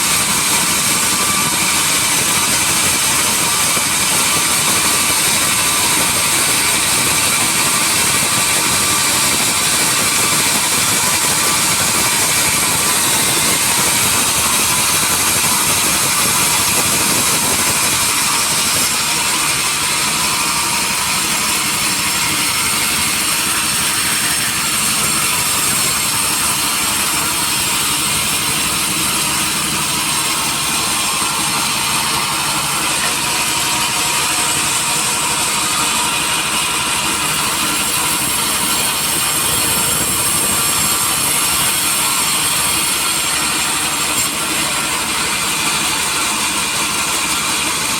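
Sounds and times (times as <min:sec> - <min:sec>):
sawmill machinery running: 0:00.0 - 0:47.9.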